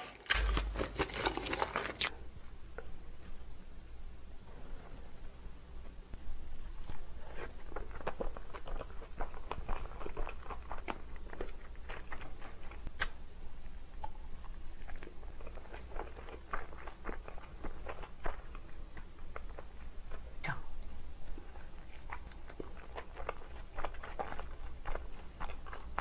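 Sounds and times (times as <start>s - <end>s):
chewing soft food: 0.0s - 3.9s, 6.1s - 26.0s.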